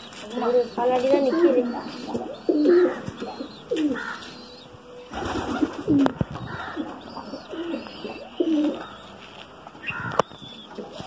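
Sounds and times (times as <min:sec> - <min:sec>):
pigeons cooing: 0:00.3 - 0:09.2, 0:09.8 - 0:11.0.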